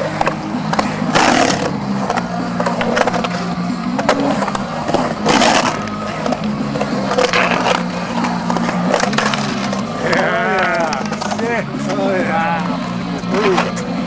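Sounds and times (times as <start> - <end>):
skateboard clacks: 0.0 - 12.1
skateboard scrape: 0.0 - 12.3
background music with bass line: 0.0 - 14.0
skateboard wheels rolling on concrete: 0.0 - 14.0.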